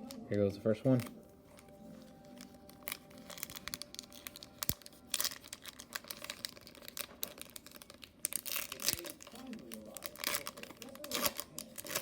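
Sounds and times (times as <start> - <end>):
foil wrapper tearing and crinkling: 0.8 - 12.0.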